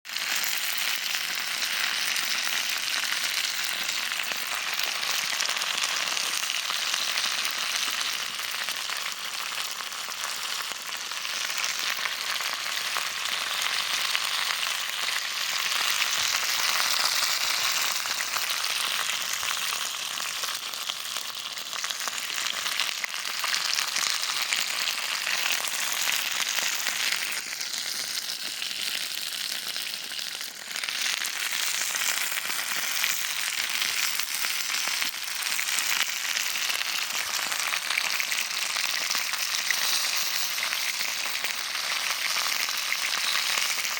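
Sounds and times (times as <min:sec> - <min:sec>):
meat sizzling on a grill: 0:00.0 - 0:43.9.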